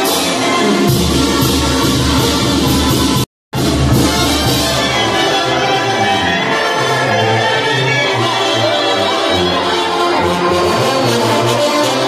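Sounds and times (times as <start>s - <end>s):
brass band music: 0.0s - 12.0s.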